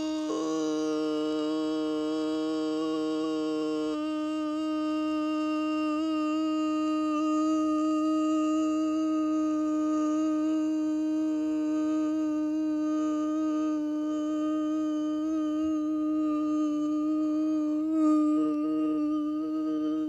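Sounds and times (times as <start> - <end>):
person humming a long note: 0.0 - 20.0.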